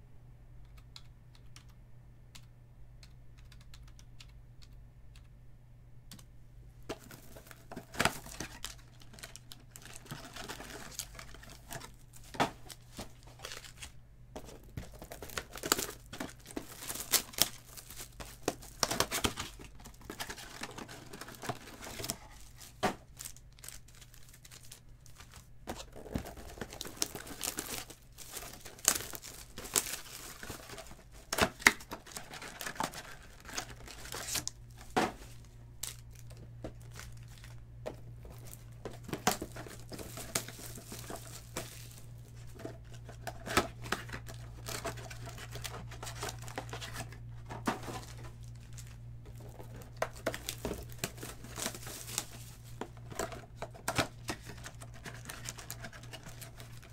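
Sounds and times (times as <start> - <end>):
wrappers tearing and crinkling: 7.0 - 14.0, 14.9 - 37.6, 38.2 - 56.9.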